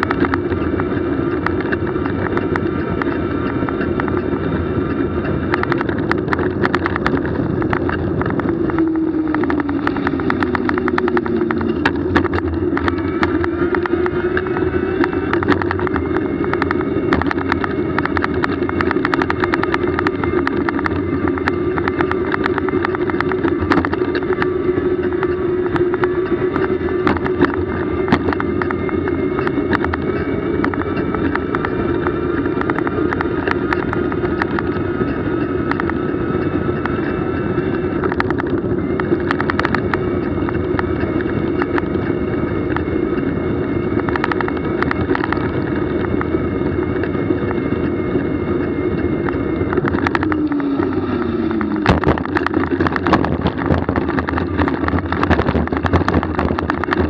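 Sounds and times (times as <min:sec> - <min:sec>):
clicks and rattles: 0:00.0 - 0:57.0
vehicle motor running: 0:00.0 - 0:57.0.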